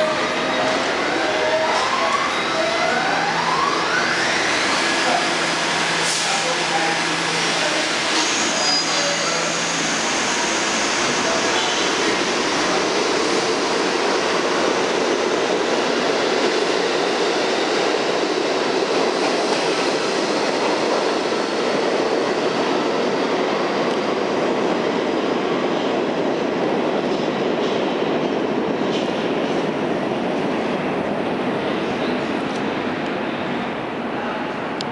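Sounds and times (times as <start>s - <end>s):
subway train rumbling on track: 0.0s - 34.9s.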